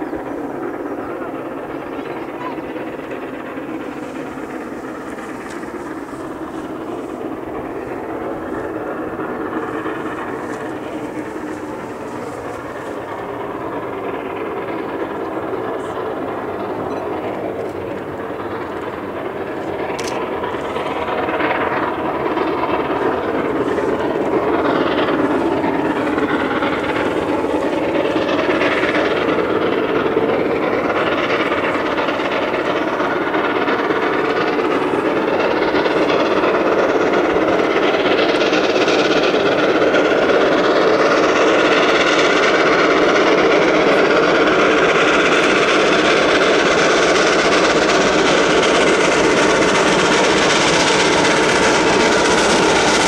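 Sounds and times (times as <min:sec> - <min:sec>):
steam locomotive exhaust: 0:00.0 - 0:53.0.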